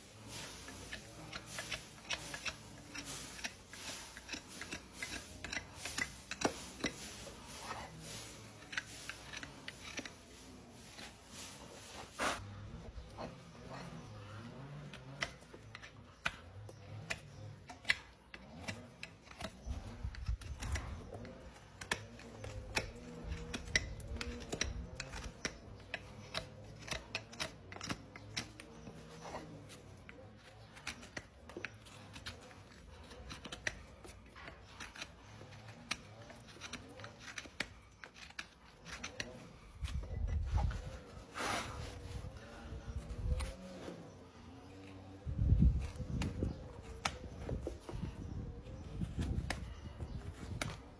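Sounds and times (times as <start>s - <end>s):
hand tools scraping hoof: 0.0s - 50.9s.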